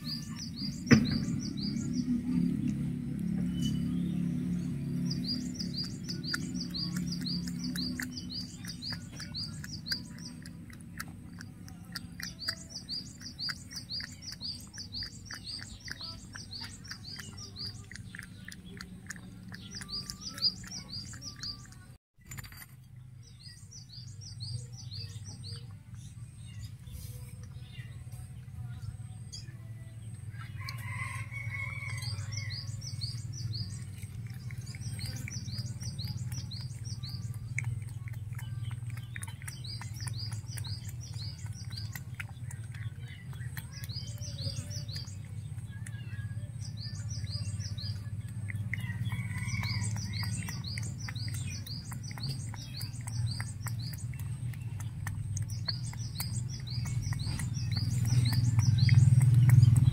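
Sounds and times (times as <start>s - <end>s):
bird chirping: 0.0s - 59.9s
cat lapping liquid: 0.1s - 22.0s, 30.0s - 59.9s.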